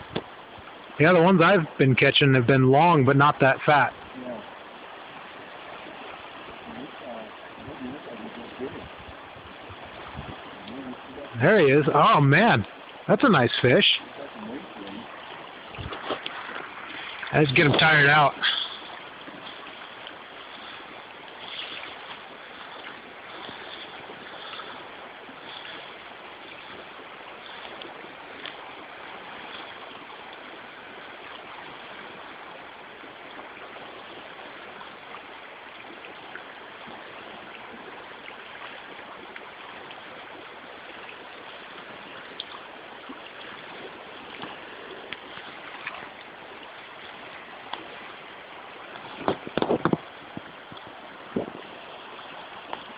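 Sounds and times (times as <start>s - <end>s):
river running over stones: 0.0s - 52.9s.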